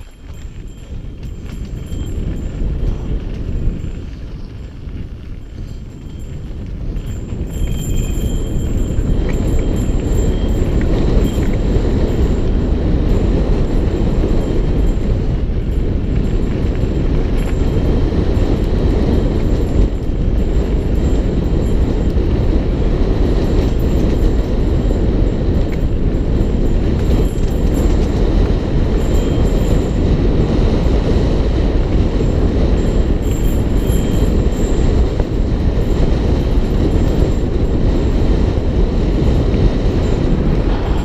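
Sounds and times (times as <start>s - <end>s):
bike tyre rumble and rattle: 0.0s - 41.0s
wind buffeting microphone: 0.0s - 41.0s.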